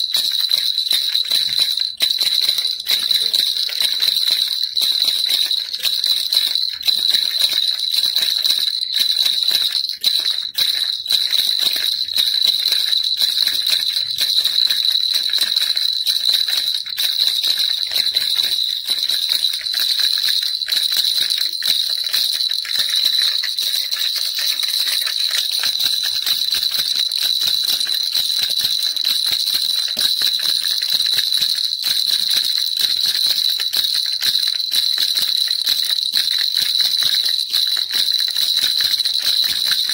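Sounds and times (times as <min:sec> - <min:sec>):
baby rattle jingling: 0:00.0 - 0:39.9.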